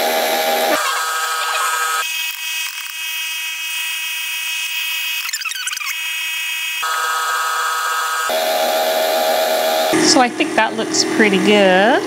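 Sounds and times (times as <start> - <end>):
stand mixer motor whining: 0.0 - 10.2.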